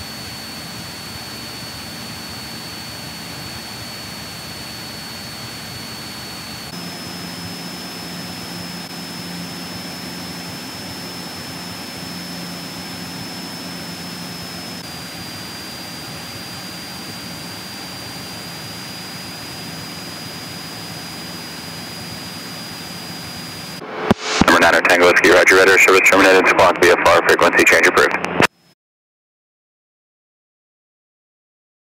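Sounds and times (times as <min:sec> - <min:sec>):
airplane engine and propeller drone: 0:00.0 - 0:28.4
thin high whine: 0:00.0 - 0:28.5.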